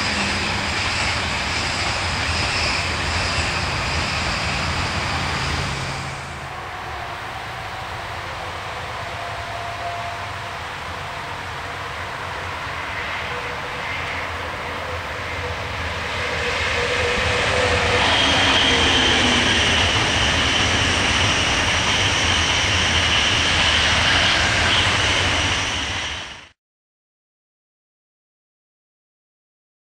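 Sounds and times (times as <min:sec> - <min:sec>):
high steady whine: 0:00.0 - 0:26.5
train rumble and rail clatter: 0:00.0 - 0:26.6.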